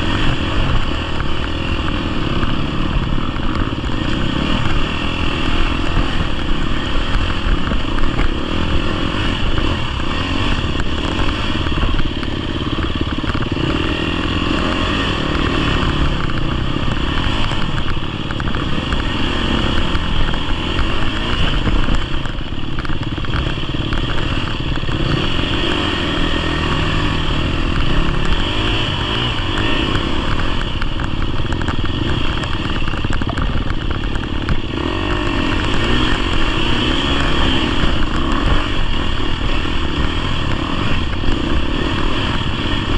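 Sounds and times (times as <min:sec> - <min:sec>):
bike rattling: 0:00.0 - 0:42.9
dirt bike engine running: 0:00.0 - 0:42.9.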